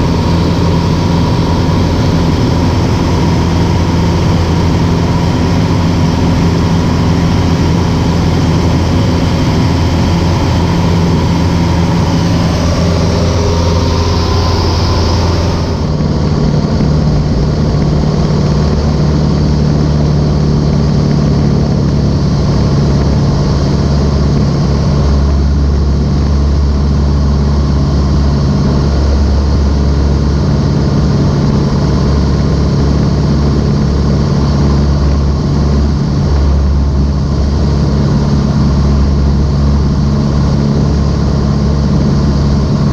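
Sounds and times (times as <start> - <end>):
small plane engine drone: 0.0 - 42.9.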